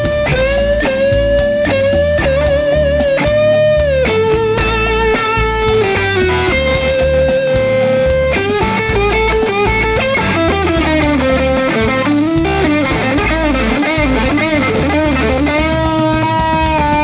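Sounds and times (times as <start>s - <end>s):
distorted electric guitar lead: 0.0s - 17.0s
rock backing track: 0.0s - 17.0s.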